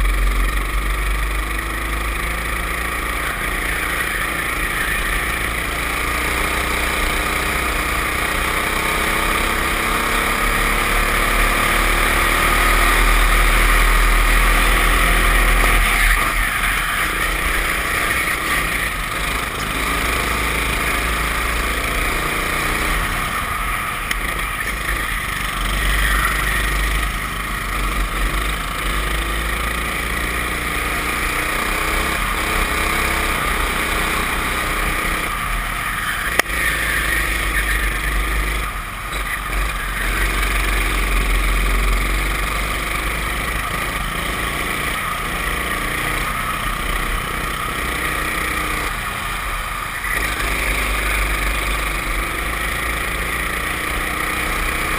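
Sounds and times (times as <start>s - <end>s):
kart engine running hard: 0.0s - 54.9s.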